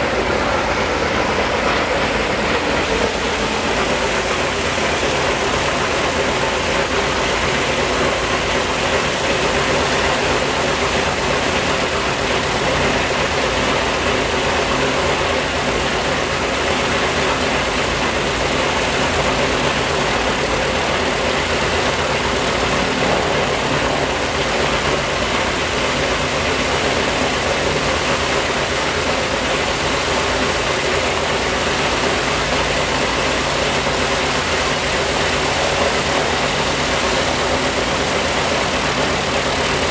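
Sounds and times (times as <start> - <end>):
radial aircraft engine droning: 0.0 - 39.9.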